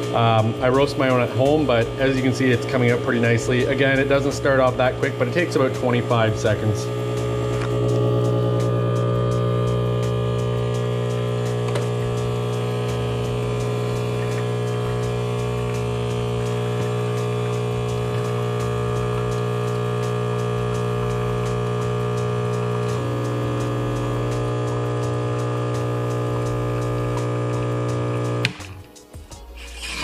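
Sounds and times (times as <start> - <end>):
espresso machine pump humming: 0.0 - 28.8.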